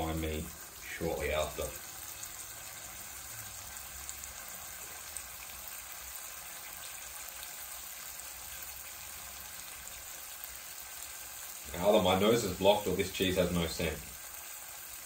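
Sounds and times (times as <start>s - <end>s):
cheese sizzling in a frying pan: 0.0s - 15.0s.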